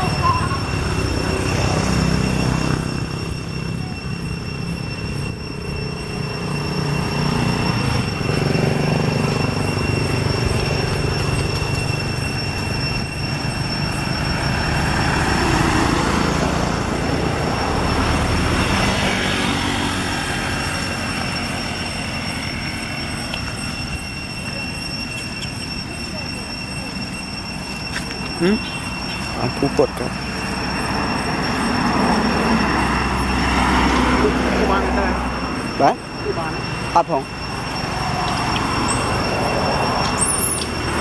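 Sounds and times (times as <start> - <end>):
thin high-pitched tones: 0.0 - 41.0
vehicle rumbling in motion: 0.0 - 41.0.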